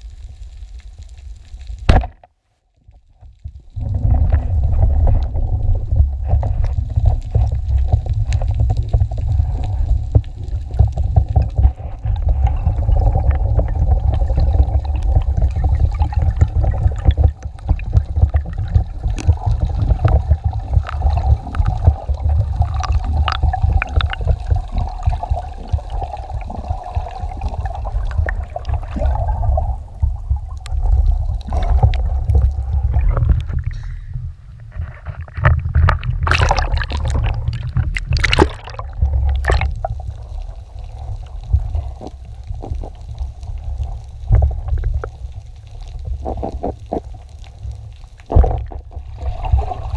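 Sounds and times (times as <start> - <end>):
crackling clicks: 0.0 - 34.0, 34.7 - 49.0
underwater pulsing low rumble: 2.8 - 49.9.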